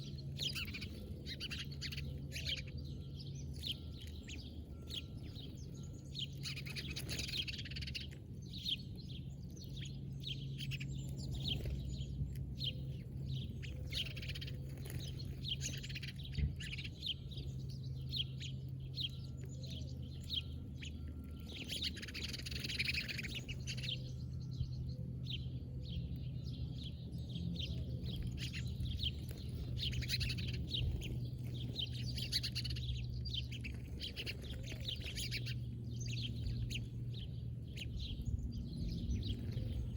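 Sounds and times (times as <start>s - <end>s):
small songbirds chirping: 0.0s - 39.9s
steady low hum: 0.0s - 39.9s.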